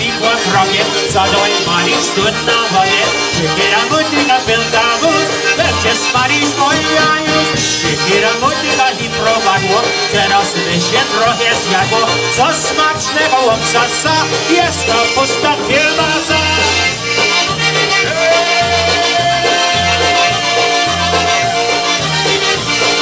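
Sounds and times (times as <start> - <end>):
accordion: 0.0 - 23.0
bass: 0.0 - 23.0
polka band playing: 0.0 - 23.0.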